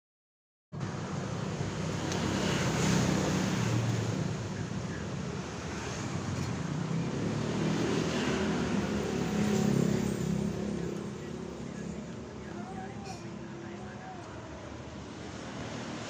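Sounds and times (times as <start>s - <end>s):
traffic rumble: 0.8s - 16.0s.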